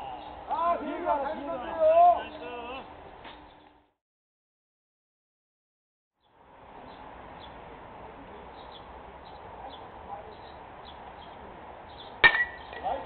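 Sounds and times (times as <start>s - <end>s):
ballfield ambience: 0.0s - 3.9s, 6.4s - 13.0s.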